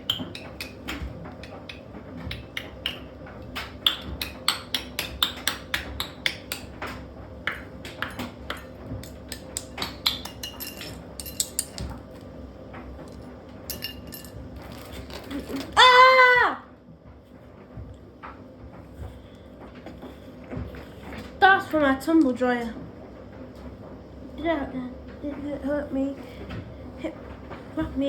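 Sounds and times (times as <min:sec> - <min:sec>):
washing machine hum: 0:00.0 - 0:28.0.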